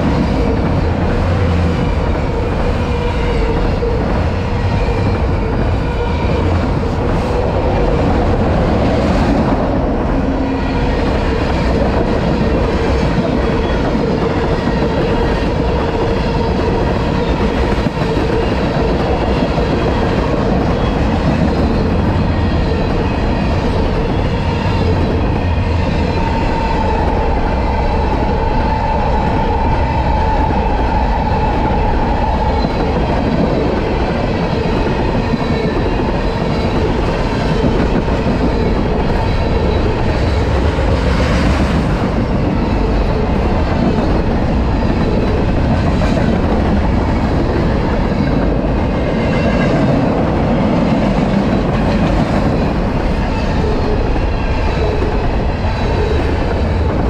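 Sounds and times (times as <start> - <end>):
clickety-clack over rail joints: 0.0 - 57.0
train wheels rumbling on rails: 0.0 - 57.0.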